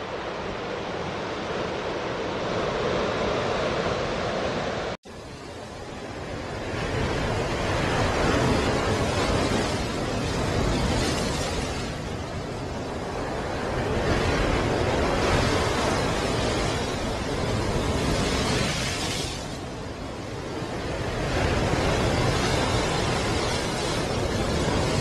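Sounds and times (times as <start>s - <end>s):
waves crashing: 0.0s - 25.0s.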